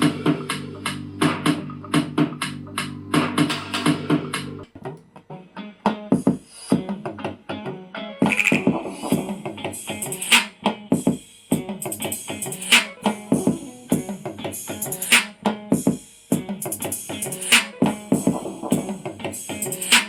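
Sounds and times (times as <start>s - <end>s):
music with drums and guitar: 0.0s - 20.0s.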